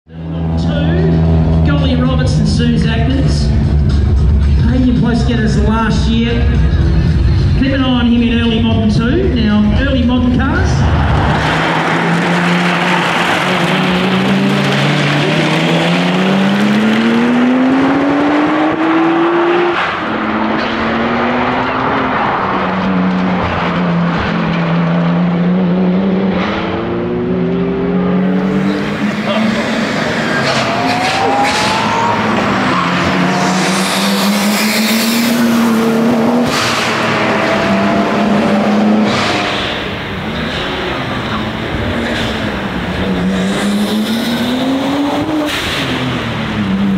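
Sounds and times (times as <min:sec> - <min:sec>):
car engine accelerating: 0:00.1 - 0:46.9.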